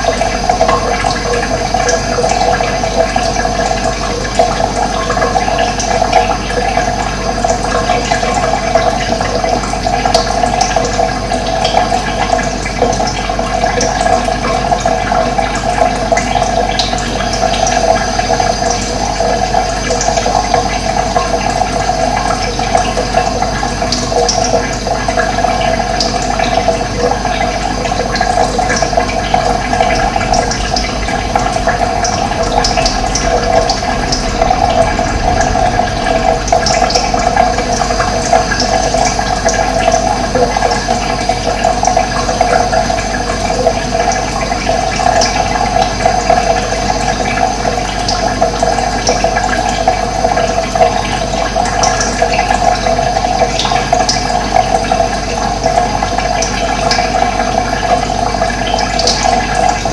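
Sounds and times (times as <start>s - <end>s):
flowing water: 0.0s - 59.9s.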